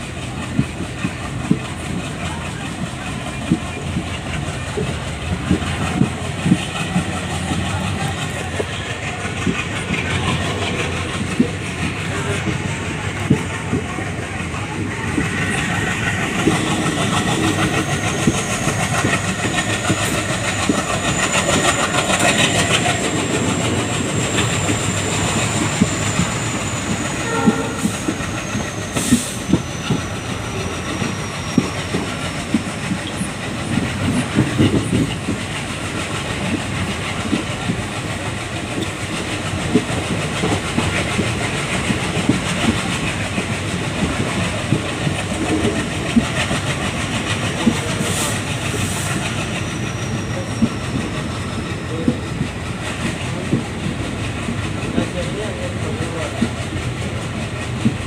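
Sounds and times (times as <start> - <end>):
diesel locomotive running: 0.0 - 58.0.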